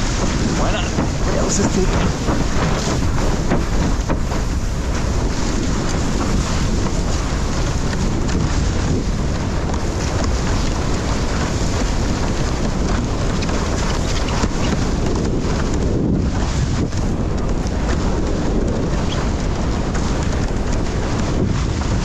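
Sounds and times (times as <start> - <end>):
water rushing and splashing: 0.0 - 22.0
wind noise on microphone: 0.0 - 22.0.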